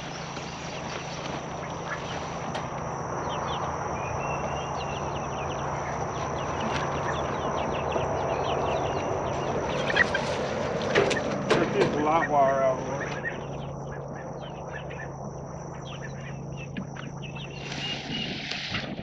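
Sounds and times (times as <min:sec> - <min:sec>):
bird chirps: 0:00.0 - 0:10.5, 0:11.1 - 0:18.8
high-pitched whine: 0:00.0 - 0:19.0.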